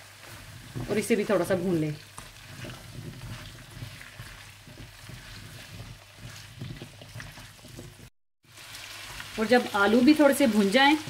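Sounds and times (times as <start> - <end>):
potatoes sizzling in oil: 0.0 - 11.0
spatula scraping wok: 0.0 - 11.0.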